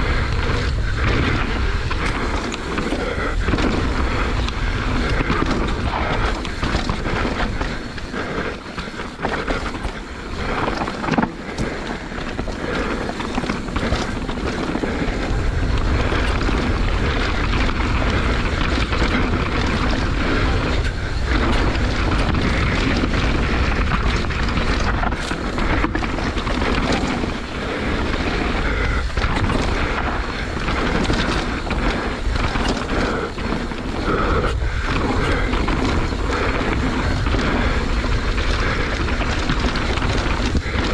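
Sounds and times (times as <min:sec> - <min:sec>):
bike rattling over bumps: 0:00.0 - 0:40.9
tyres rumbling on trail: 0:00.0 - 0:40.9
wind buffeting microphone: 0:00.0 - 0:40.9.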